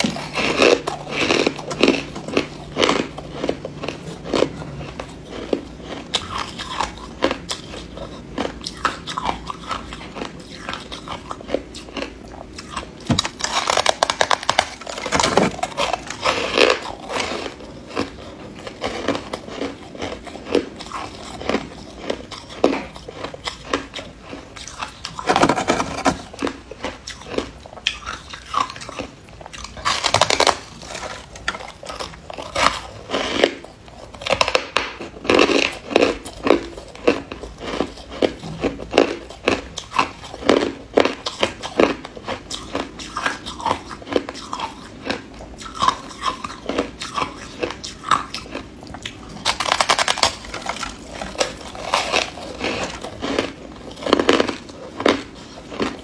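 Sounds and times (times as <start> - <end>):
ice being crunched by chewing: 8.7 - 41.9, 42.5 - 56.0.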